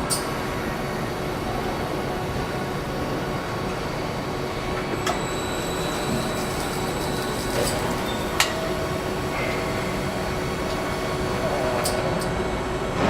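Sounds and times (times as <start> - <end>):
machinery hum and whine: 0.0 - 13.0.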